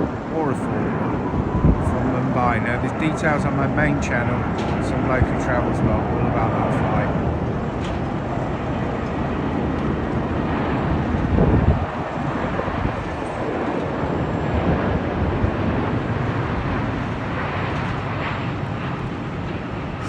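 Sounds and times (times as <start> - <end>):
jet airliner rumble: 0.0 - 20.0.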